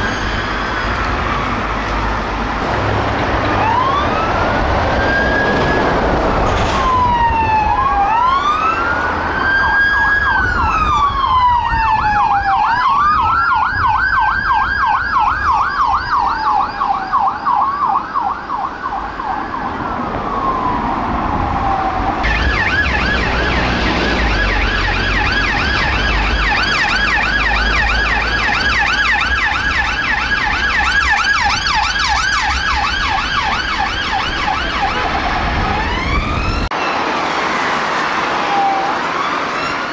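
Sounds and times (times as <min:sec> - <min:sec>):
police sirens wailing: 0:00.0 - 0:39.9
traffic rumble: 0:00.0 - 0:39.9
siren yelp: 0:03.6 - 0:39.9.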